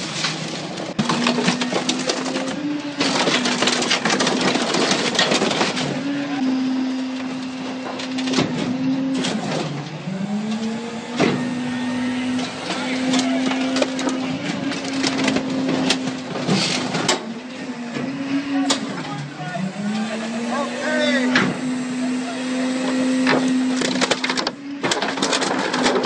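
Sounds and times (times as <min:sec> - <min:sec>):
car body crackling and crunching: 0:00.0 - 0:06.3, 0:07.2 - 0:19.5, 0:23.2 - 0:26.0
engine and hydraulic drone: 0:00.0 - 0:26.0.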